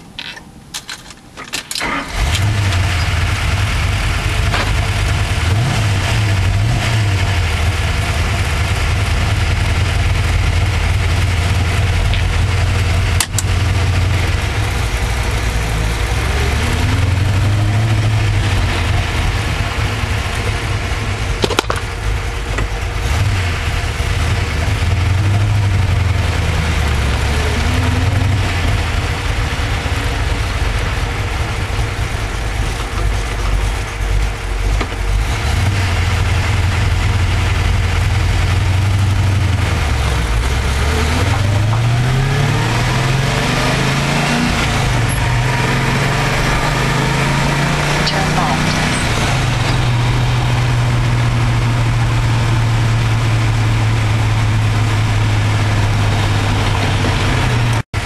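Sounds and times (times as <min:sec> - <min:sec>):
car engine cranking and idling: 0:00.0 - 0:58.0.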